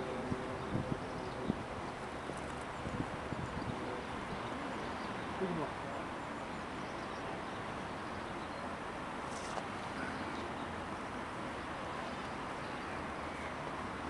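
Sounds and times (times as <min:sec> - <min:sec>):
distant city traffic hum: 0:00.0 - 0:14.0.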